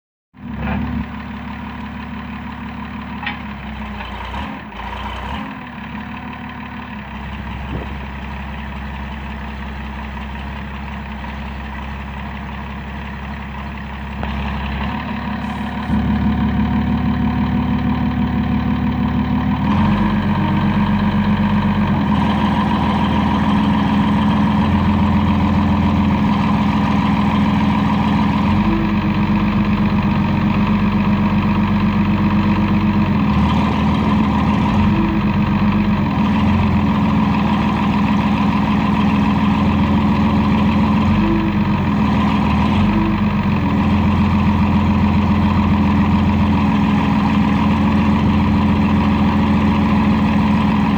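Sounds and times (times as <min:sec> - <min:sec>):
backhoe engine running: 0:00.3 - 0:50.9.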